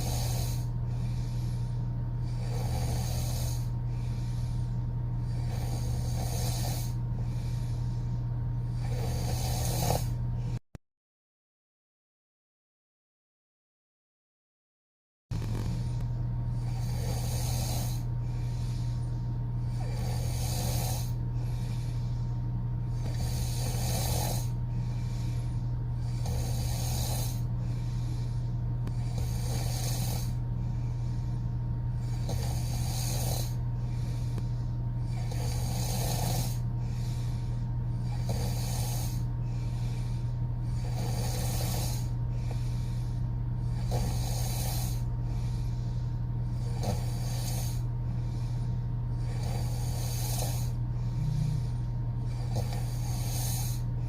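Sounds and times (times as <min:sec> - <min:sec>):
woman snoring: 0:00.0 - 0:10.6, 0:15.3 - 0:54.0.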